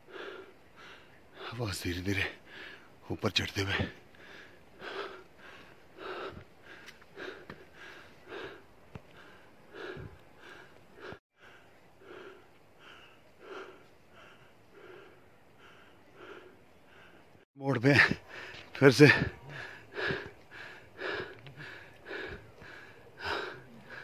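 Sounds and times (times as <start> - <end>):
heavy breathing: 0.0 - 1.6, 2.3 - 2.9, 3.7 - 24.0.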